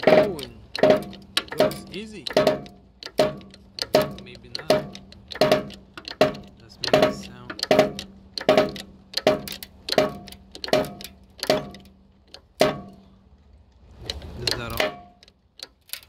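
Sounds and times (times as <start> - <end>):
hydraulic jack pumping clacks: 0.0 - 13.1, 14.0 - 16.0.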